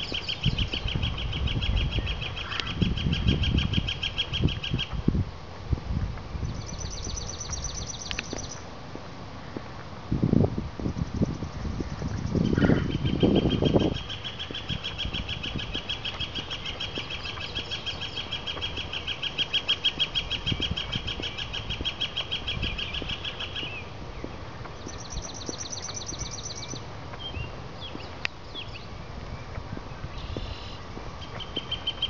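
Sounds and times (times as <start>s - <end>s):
songbird trilling: 0.0s - 4.9s, 6.4s - 8.6s, 11.2s - 32.0s.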